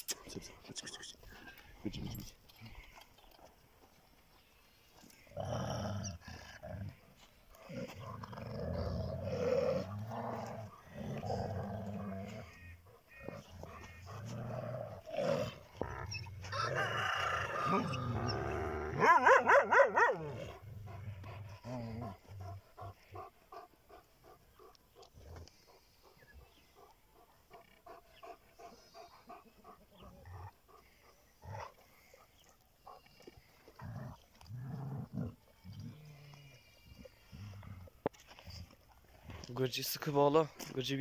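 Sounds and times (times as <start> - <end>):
dogs growling: 5.0 - 39.5.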